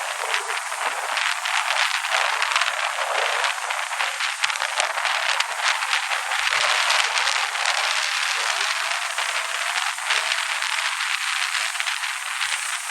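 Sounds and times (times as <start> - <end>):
storm wind hissing and rattling: 0.0 - 12.9.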